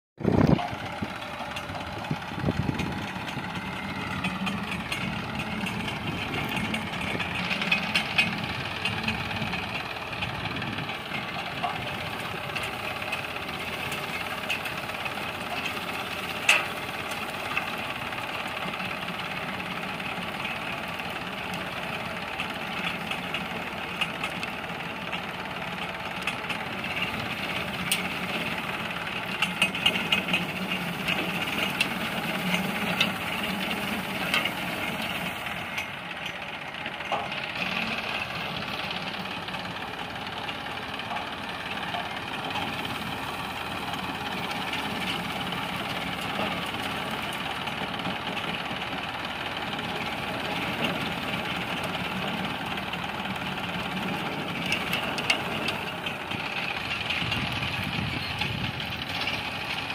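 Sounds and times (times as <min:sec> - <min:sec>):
implement dragging through soil: 0:00.2 - 0:59.9
tractor diesel engine running: 0:00.2 - 0:59.9.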